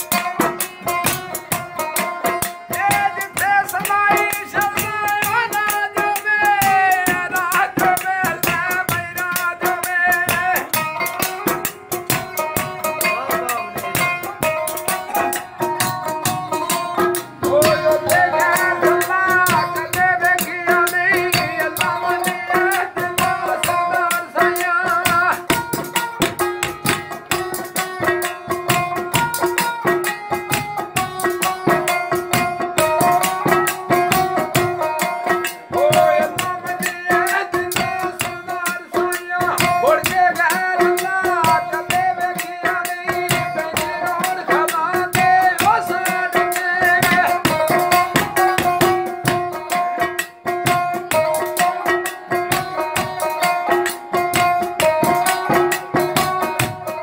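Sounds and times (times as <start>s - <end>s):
fast hand-drum strokes: 0.0s - 57.0s
ornamented melody line: 0.0s - 57.0s.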